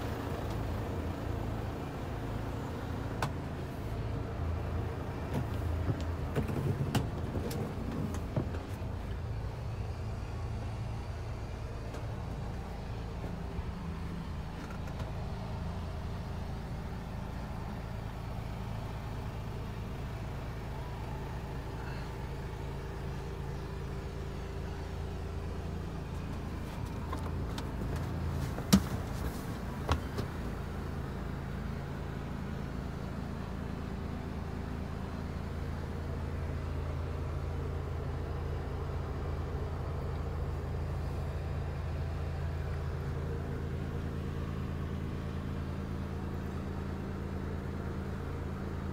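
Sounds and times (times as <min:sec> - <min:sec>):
truck engine idling: 0:00.0 - 0:48.9.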